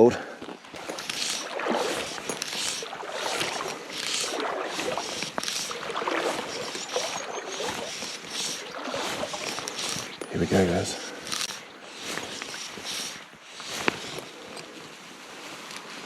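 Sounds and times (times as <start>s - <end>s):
water sloshing around wading legs: 0.4s - 14.6s.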